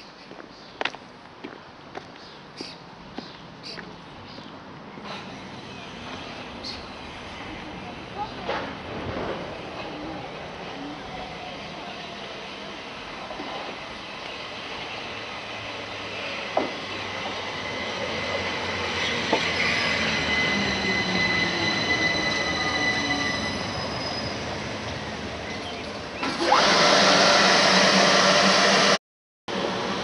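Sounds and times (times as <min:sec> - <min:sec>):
electric train passing: 0:04.7 - 0:30.0.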